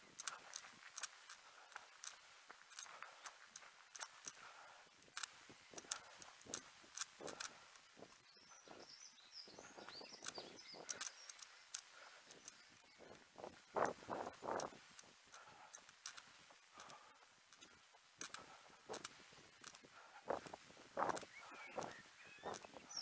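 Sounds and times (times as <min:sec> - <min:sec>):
small bird chirping: 0:00.0 - 0:23.0.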